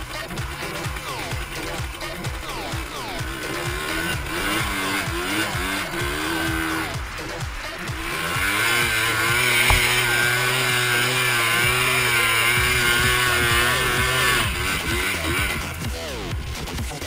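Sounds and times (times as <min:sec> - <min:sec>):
quad engine revving: 0:00.0 - 0:17.0.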